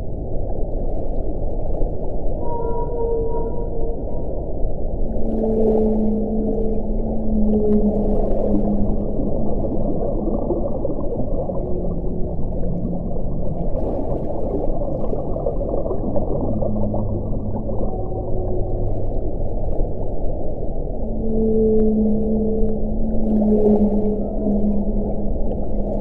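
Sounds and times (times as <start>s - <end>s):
faint moaning tones: 2.3s - 26.0s.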